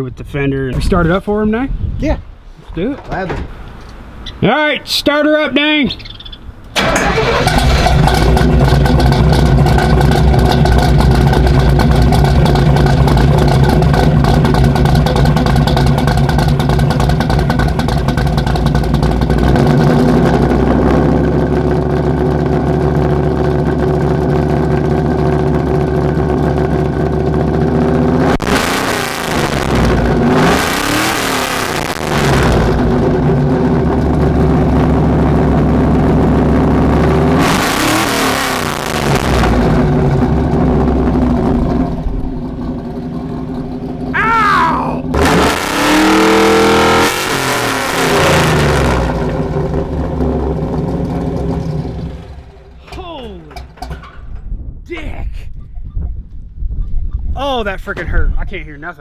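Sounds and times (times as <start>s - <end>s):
pickup engine idling and revving: 6.0s - 53.9s.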